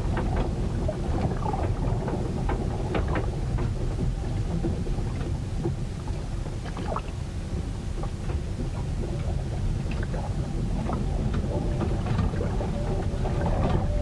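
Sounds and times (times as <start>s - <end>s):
low rumble of wind and water: 0.0s - 14.0s.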